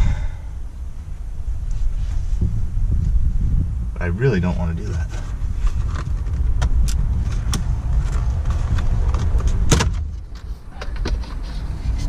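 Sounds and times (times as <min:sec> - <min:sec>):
low rumble: 0:00.0 - 0:10.7.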